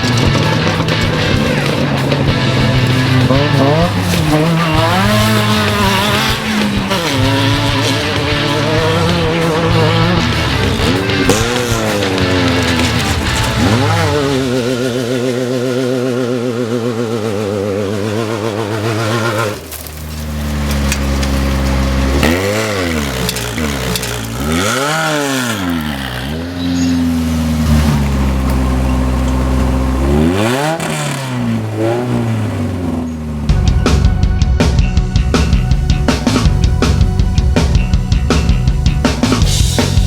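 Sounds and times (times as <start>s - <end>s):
race vehicle engines revving: 0.0s - 40.0s.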